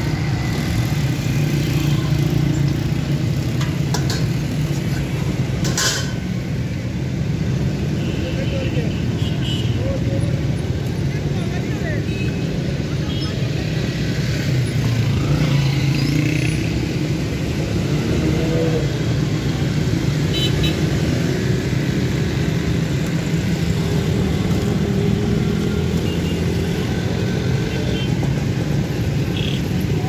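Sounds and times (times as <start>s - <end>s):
vehicle engines passing: 0.0s - 30.0s.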